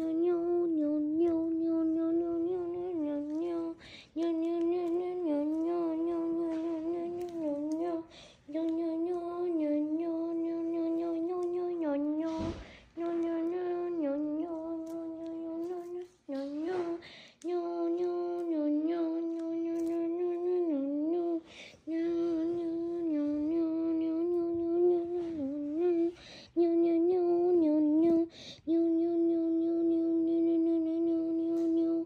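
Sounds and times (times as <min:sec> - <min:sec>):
person humming: 0:00.0 - 0:32.0.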